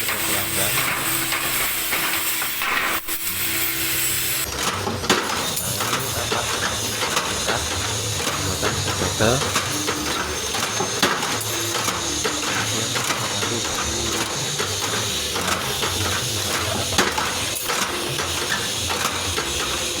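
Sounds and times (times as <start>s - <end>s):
bending machine running: 0.0s - 20.0s.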